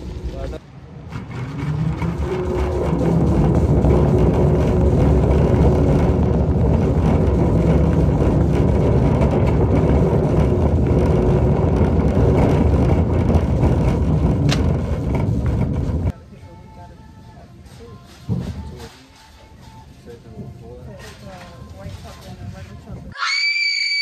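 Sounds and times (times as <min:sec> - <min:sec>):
vehicle rumble: 0:00.0 - 0:23.1.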